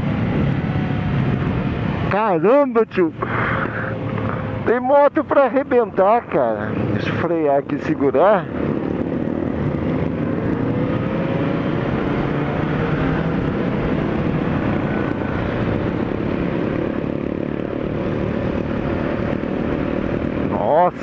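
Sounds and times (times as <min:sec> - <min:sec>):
wind rush: 0:00.0 - 0:02.1, 0:06.2 - 0:21.0
motorcycle engine running: 0:04.0 - 0:21.0.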